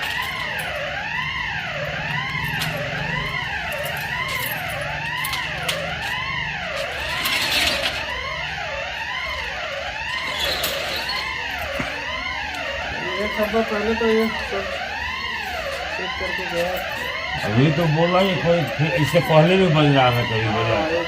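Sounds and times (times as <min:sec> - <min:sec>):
alarm siren wailing: 0:00.0 - 0:21.0.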